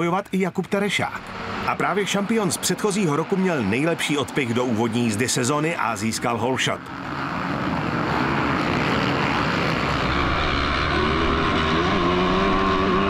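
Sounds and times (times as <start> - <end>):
motocross bikes racing: 1.2 - 13.0.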